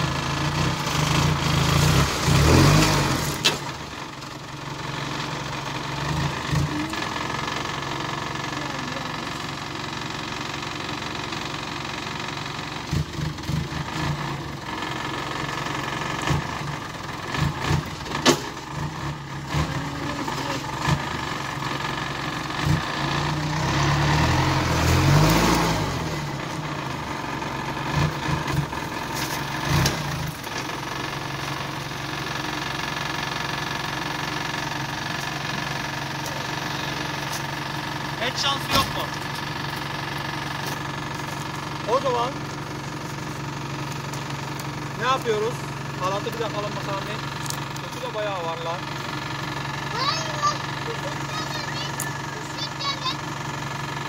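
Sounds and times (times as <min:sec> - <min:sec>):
vehicle engine idling and revving: 0:00.0 - 0:54.0.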